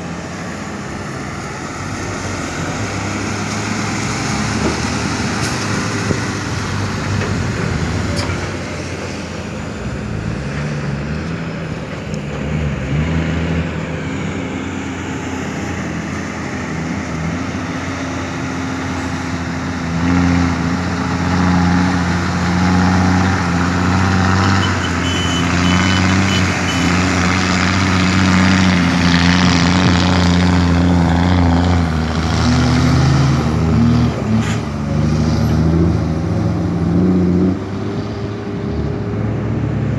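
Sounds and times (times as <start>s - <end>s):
dump truck engine: 0.0s - 39.9s
excavator diesel engine: 0.0s - 39.9s.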